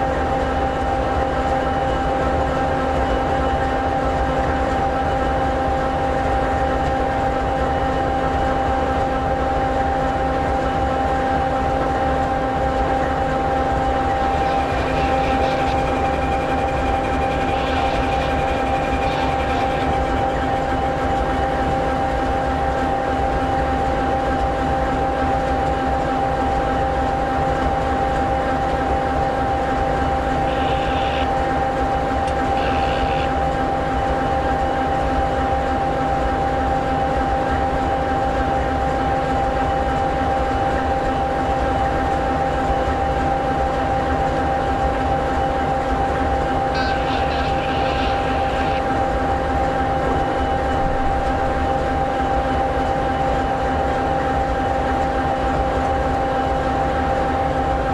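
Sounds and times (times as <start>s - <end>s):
diesel locomotive idling: 1.3s - 27.2s, 28.7s - 57.9s.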